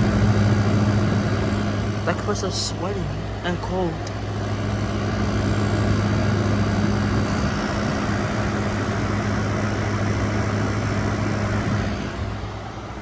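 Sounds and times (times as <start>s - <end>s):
air conditioner compressor hum: 0.0s - 13.0s
fan airflow rushing: 0.0s - 13.0s.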